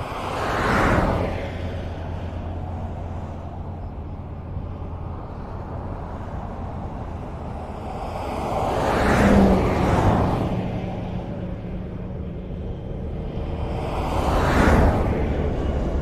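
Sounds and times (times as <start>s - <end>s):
rumble of highway traffic: 0.0s - 16.0s
vehicle passing loudly: 0.0s - 16.0s.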